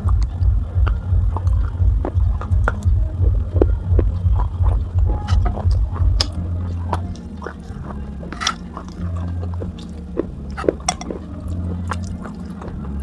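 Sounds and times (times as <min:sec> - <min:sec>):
chewing crunchy clay pieces: 0:00.0 - 0:13.0
low hum: 0:00.0 - 0:13.0.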